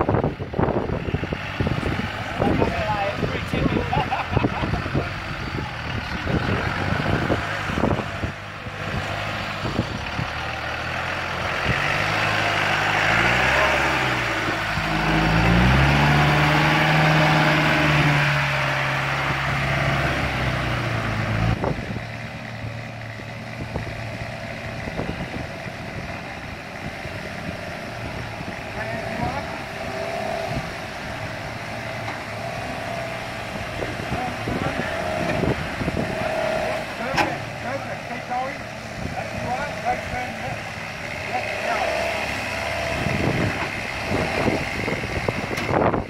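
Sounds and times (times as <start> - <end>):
diesel engine working hard: 0.0 - 46.0
rough engine sound: 0.0 - 46.0.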